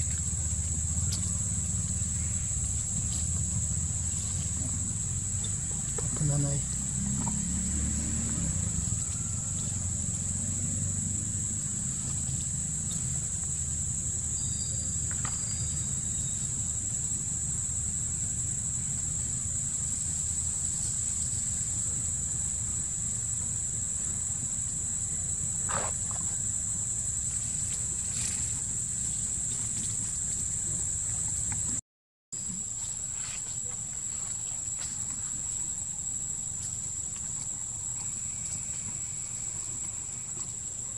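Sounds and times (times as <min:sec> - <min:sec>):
insects droning: 0:00.0 - 0:31.8, 0:32.4 - 0:40.9.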